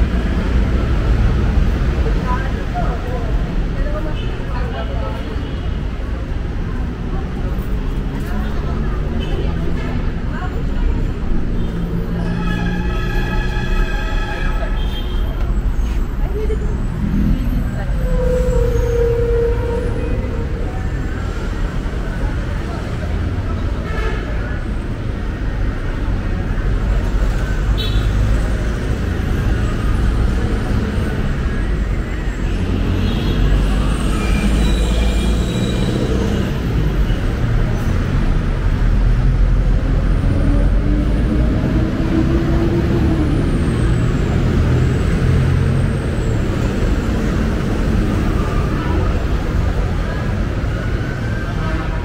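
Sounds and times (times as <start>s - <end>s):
low road rumble: 0.0s - 52.0s
passing vehicle engines: 0.0s - 52.0s.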